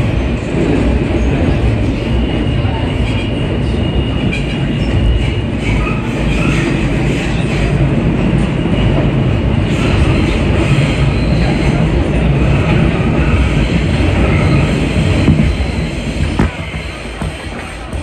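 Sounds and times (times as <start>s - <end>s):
subway train rumbling on rails: 0.0s - 18.0s.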